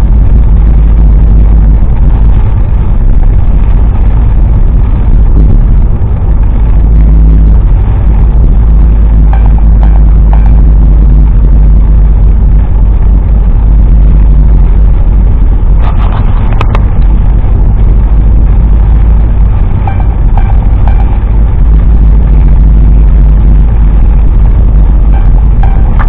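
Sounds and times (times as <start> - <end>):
car driving on wet road: 0.0 - 26.0.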